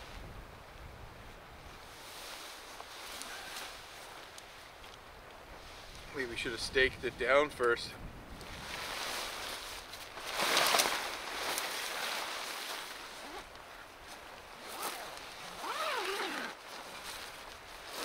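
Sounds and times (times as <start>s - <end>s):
tent rainfly rustling and flapping: 0.0s - 6.8s, 8.2s - 18.0s.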